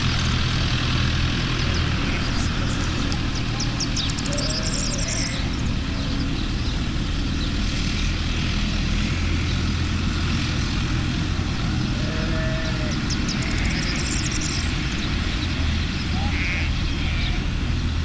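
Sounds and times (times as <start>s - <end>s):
low motor-like rumble: 0.0s - 18.0s
skylark chirping song: 0.1s - 18.0s.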